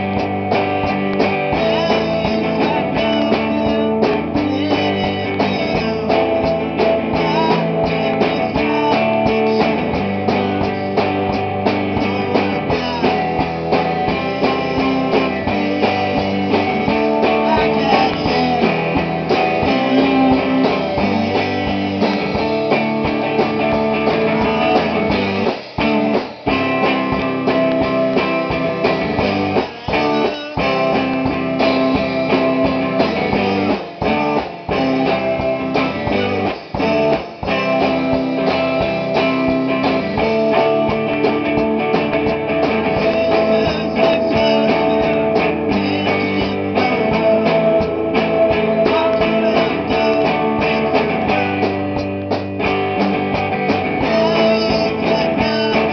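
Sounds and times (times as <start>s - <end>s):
guitar chords strummed loudly: 0.0s - 55.9s.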